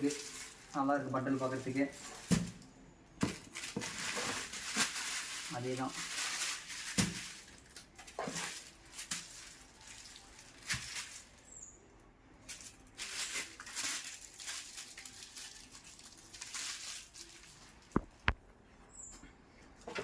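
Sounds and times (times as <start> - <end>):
cardboard packaging rustling: 0.0 - 2.6, 3.2 - 11.4, 12.4 - 18.4.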